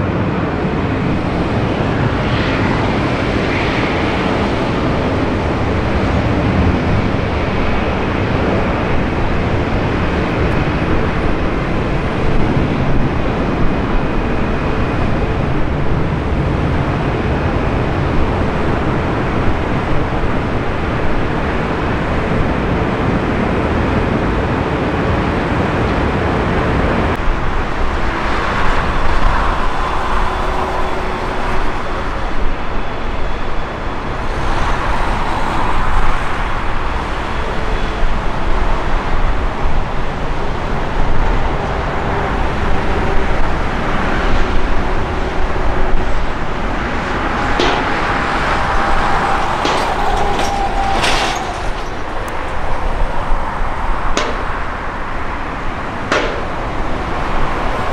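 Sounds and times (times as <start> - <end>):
jet engines rushing: 0.0 - 57.9.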